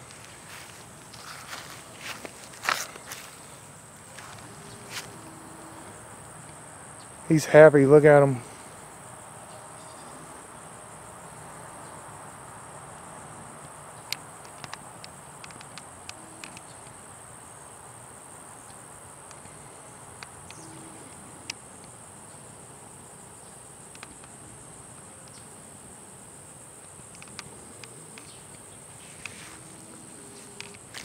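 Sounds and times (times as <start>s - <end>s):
insect chorus drone: 0.0s - 31.0s.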